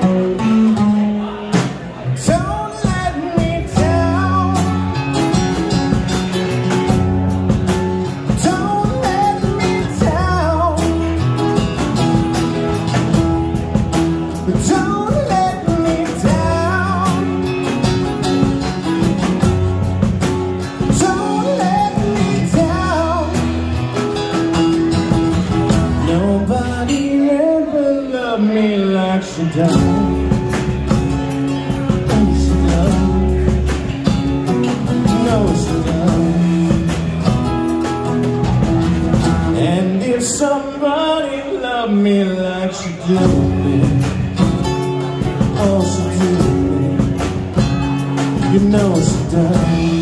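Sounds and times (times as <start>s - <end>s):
man singing: 0.0s - 7.1s, 7.7s - 13.2s, 14.0s - 19.7s, 20.6s - 38.2s, 39.1s - 50.0s
drum kit with cymbals: 0.0s - 26.5s, 29.7s - 39.8s, 43.2s - 50.0s
acoustic-electric guitar: 0.0s - 50.0s
electric bass line: 2.3s - 26.9s, 29.6s - 39.8s, 43.1s - 50.0s.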